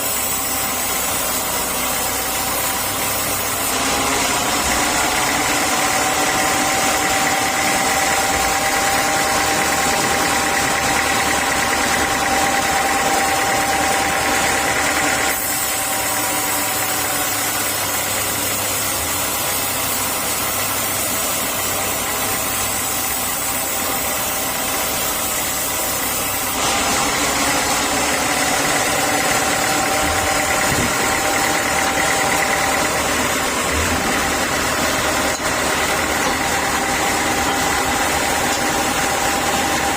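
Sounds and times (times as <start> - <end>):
high steady whine: 0.0 - 39.9
motor drone: 0.0 - 39.9.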